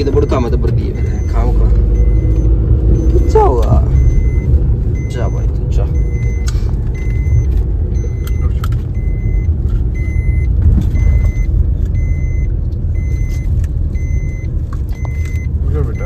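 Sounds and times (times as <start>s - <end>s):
car engine rumble: 0.0s - 16.0s
electronic beep: 0.0s - 16.0s.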